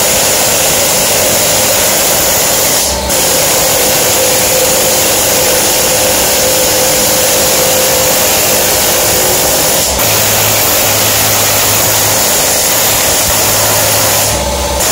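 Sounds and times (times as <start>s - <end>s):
air hammer chiselling metal: 0.0s - 14.9s.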